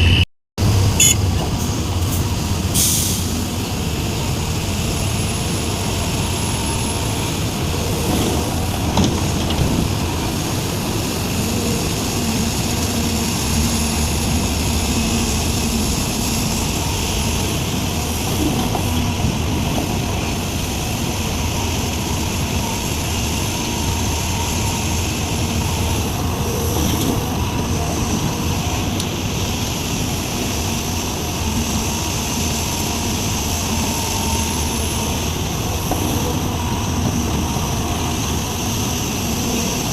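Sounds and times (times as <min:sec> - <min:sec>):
excavator diesel engine under load: 0:00.0 - 0:39.9.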